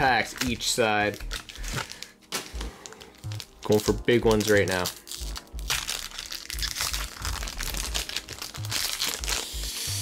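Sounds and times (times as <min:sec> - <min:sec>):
foil pack crinkling: 0:00.0 - 0:09.7
foil pack tearing open: 0:00.2 - 0:10.0.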